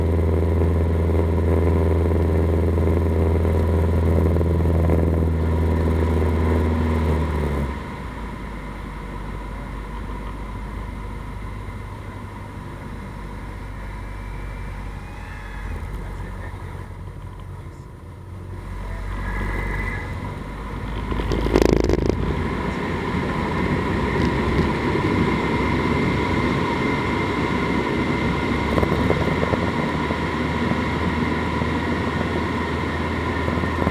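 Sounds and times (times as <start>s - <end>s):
small plane engine running: 0.0s - 33.9s.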